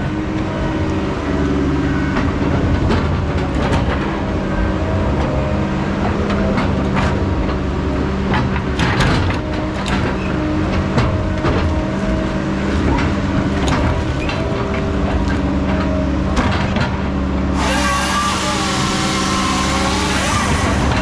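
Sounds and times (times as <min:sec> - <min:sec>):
heavy machinery engine running: 0:00.0 - 0:21.0.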